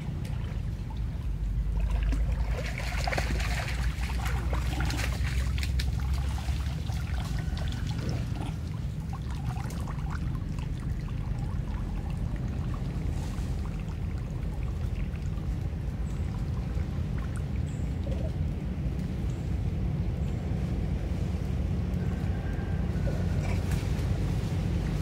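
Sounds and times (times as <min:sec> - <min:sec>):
low rumble: 0:00.0 - 0:25.0
water splashing and trickling: 0:00.0 - 0:25.0.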